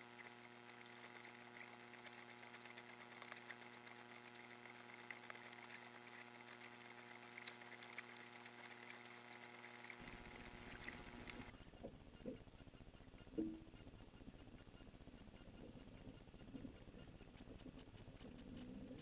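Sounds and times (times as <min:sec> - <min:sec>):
faint electronic hum: 0:00.0 - 0:19.0
faint ticks: 0:00.0 - 0:19.0.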